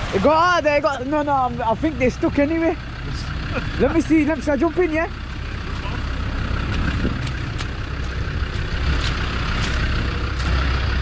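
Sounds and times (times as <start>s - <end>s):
engine running with low rumble: 0.0s - 11.0s.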